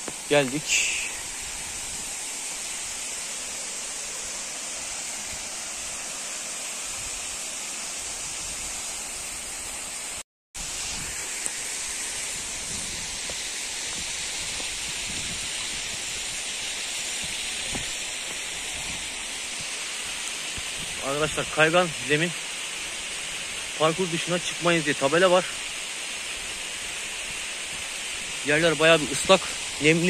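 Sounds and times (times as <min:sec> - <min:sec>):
stream cascading over rocks: 0:00.0 - 0:30.0.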